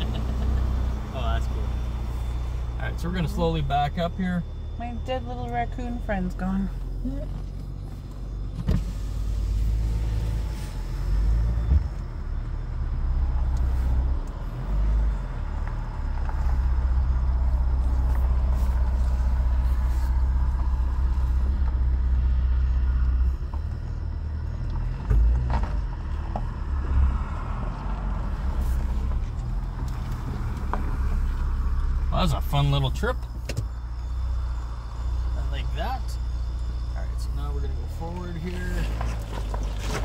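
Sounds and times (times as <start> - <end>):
engine low rumble: 0.0 - 40.0.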